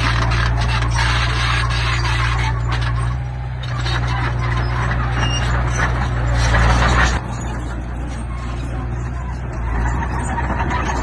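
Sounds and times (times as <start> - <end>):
heavy machinery diesel engine: 0.0 - 11.0.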